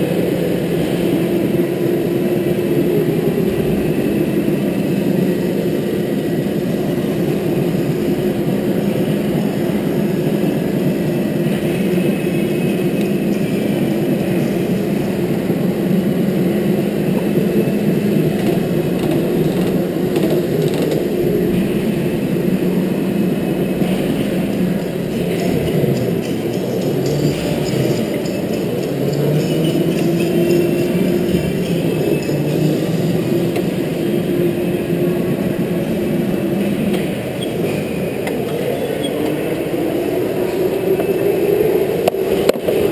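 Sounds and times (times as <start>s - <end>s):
go-kart driving hum: 0.0s - 42.9s
rushing noise: 0.0s - 42.9s.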